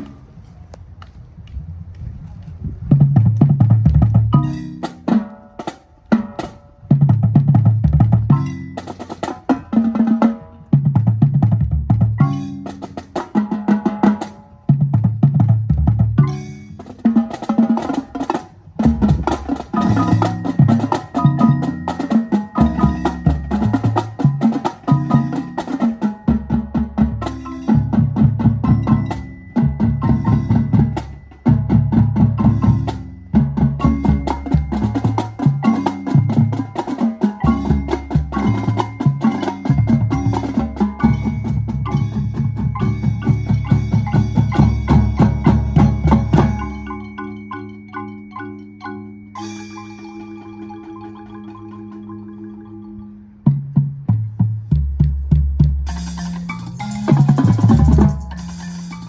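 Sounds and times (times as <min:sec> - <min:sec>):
marching drums: 0:02.9 - 0:47.1, 0:53.5 - 0:59.0
marimbas playing: 0:04.2 - 0:05.7, 0:07.8 - 0:10.3, 0:12.0 - 0:14.4, 0:16.0 - 0:54.2, 0:55.8 - 0:59.0.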